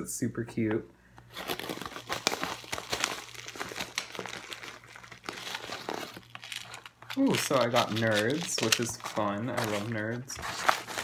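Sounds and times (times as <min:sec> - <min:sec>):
paper bag crinkling: 0:01.3 - 0:11.0.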